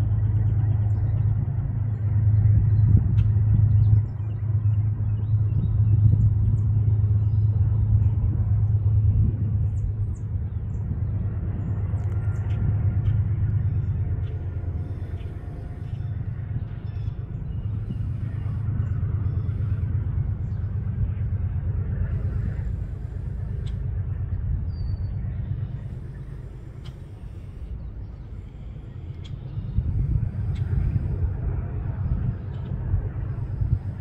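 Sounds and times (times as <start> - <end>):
low outdoor rumble: 0.0 - 34.0.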